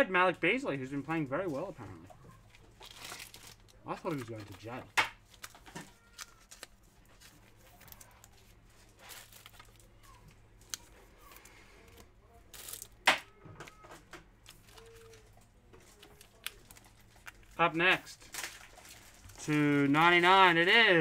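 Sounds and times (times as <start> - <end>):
paper and plastic rustling: 0.9 - 21.0.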